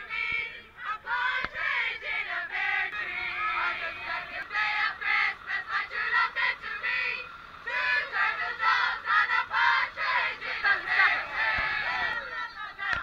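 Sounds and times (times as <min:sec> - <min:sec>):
women singing loudly together: 0:00.0 - 0:13.0.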